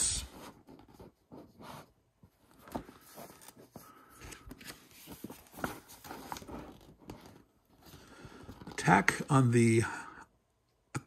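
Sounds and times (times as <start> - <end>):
paper pages turning: 0.2 - 9.3.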